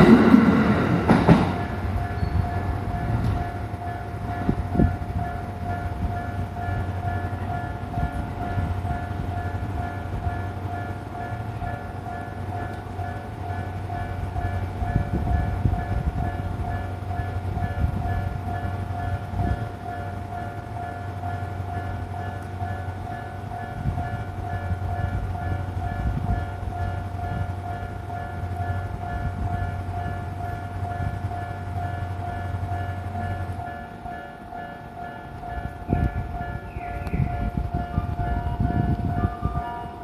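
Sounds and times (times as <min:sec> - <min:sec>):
train rumbling: 0:00.0 - 0:40.0
level-crossing bell ringing: 0:01.7 - 0:40.0.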